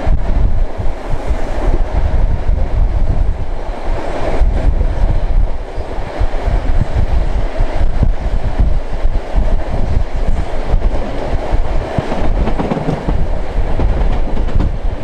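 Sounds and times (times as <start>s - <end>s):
steam train rumbling: 0.0s - 15.0s
wind buffeting microphone: 0.0s - 15.0s.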